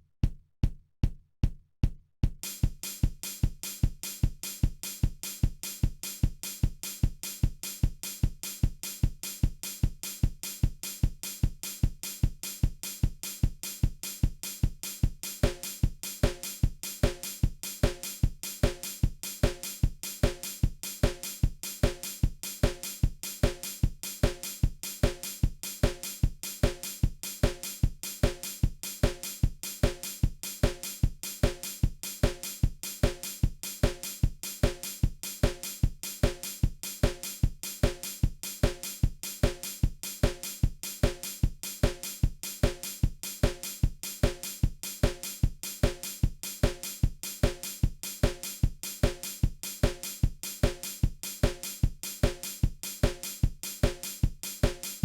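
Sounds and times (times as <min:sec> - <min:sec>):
kick drum: 0:00.0 - 0:55.0
drum kit beat: 0:00.2 - 0:55.0
hi-hat: 0:02.4 - 0:55.0
snare drum: 0:02.4 - 0:55.0.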